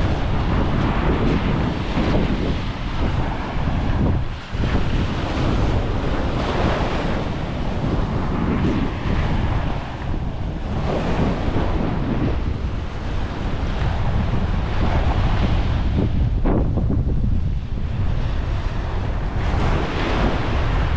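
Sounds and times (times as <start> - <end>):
surf washing onto beach: 0.0 - 20.9
wind buffeting microphone: 0.0 - 20.9.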